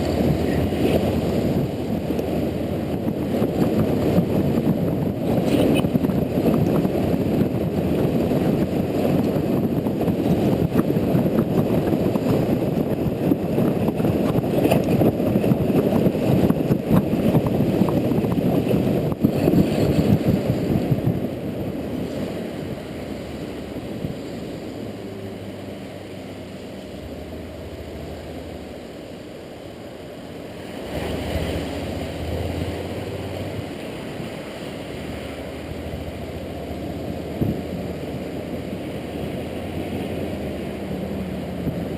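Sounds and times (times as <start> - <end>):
motorcycle engine hum: 0.0 - 41.9
tyre noise on wet road: 0.0 - 41.9
wind rush: 0.0 - 41.9.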